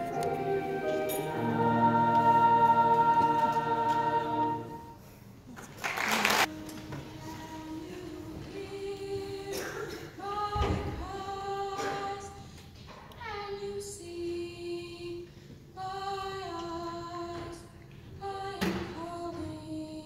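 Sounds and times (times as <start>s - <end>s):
choir singing slow melody: 0.0s - 5.3s, 6.4s - 12.6s, 13.7s - 20.0s.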